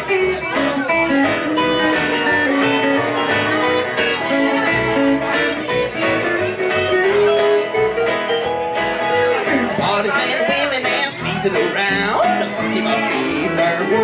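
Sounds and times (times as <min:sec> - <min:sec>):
acoustic guitar: 0:00.0 - 0:14.0
electric guitar: 0:00.0 - 0:14.0
plucked upright double bass: 0:00.0 - 0:14.0.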